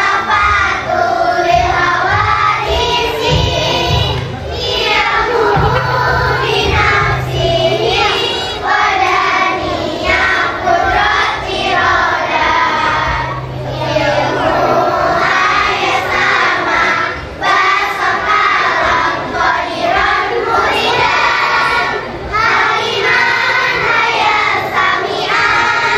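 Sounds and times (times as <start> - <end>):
girls choir singing in unison: 0.0 - 25.9.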